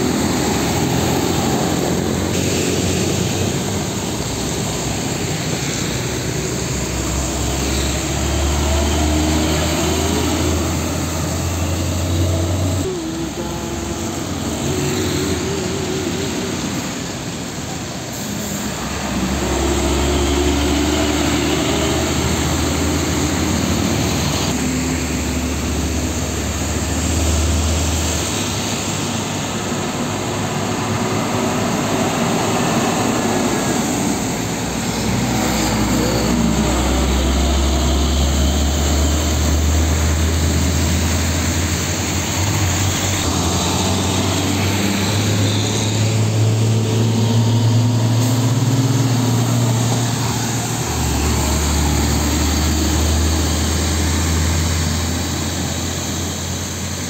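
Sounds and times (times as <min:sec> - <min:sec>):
diesel truck engine drone: 0:00.0 - 0:57.0
traffic noise: 0:00.0 - 0:57.0.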